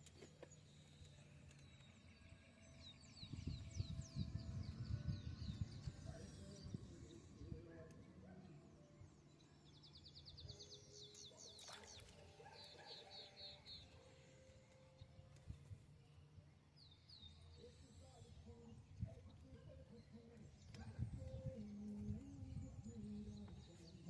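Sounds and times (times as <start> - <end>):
faint birdsong: 0.0 - 24.0.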